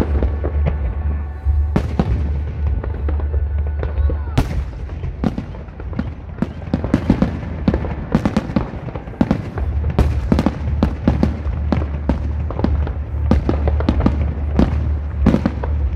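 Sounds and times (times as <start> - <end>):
fireworks bangs and crackles: 0.0 - 15.9
low rumble: 0.0 - 15.9.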